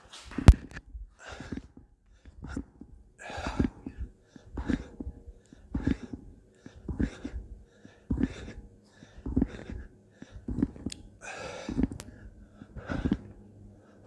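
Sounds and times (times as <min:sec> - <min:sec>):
man breathing hard: 0:01.1 - 0:14.0.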